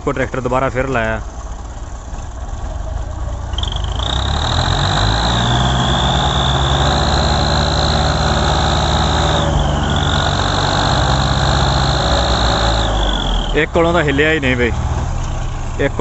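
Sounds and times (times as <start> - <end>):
diesel engine under heavy load: 0.0 - 16.0.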